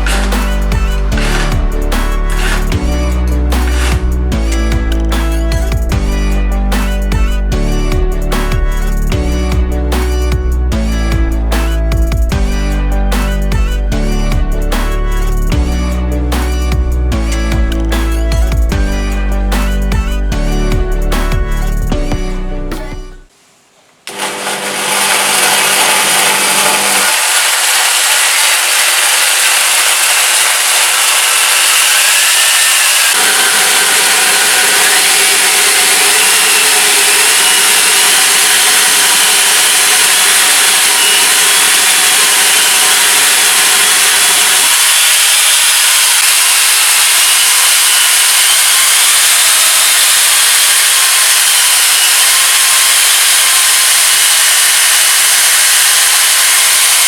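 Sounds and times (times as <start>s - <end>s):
high motor whine: 0.0s - 23.3s, 24.2s - 57.0s.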